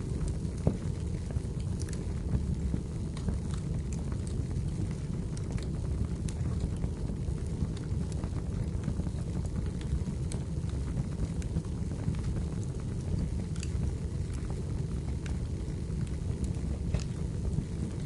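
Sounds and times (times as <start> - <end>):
fire rumbling: 0.0 - 18.0
firewood crackling and popping: 0.0 - 18.0.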